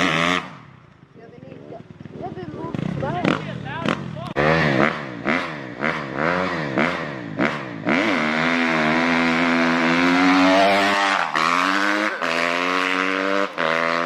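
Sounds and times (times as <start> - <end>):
dirt bike engine revving: 0.0 - 0.6, 2.7 - 14.0.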